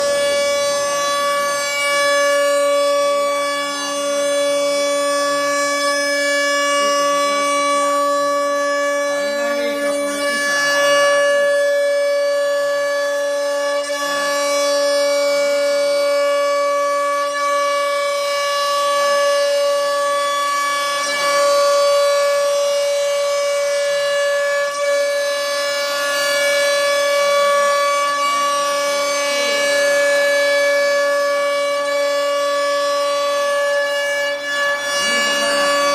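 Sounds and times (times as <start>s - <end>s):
cutting noise: 0.0s - 35.9s
router spindle whine: 0.0s - 35.9s.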